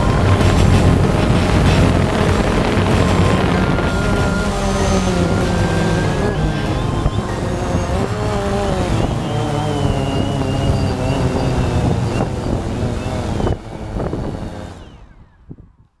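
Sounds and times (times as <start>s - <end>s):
drone propellers whirring: 0.0s - 15.5s.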